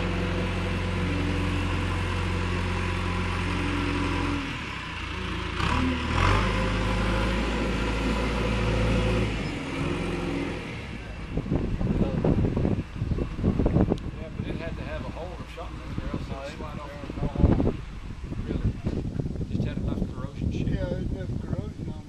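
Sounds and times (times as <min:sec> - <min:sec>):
engine running: 0:00.0 - 0:20.6.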